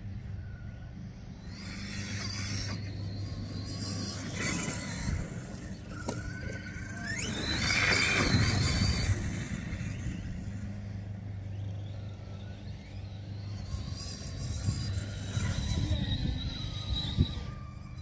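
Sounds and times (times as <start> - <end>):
toy car motor whine: 0.0 - 18.0.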